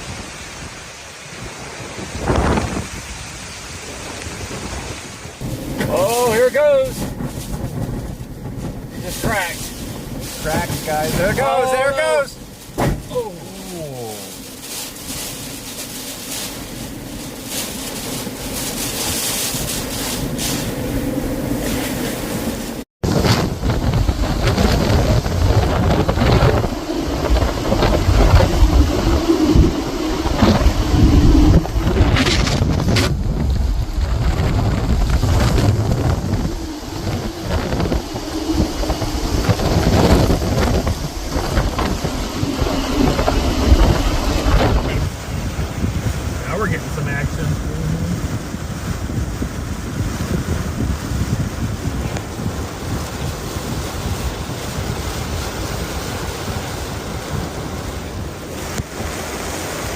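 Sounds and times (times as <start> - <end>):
rain: 0.0 - 59.9
wind gusting against microphone: 0.0 - 59.9.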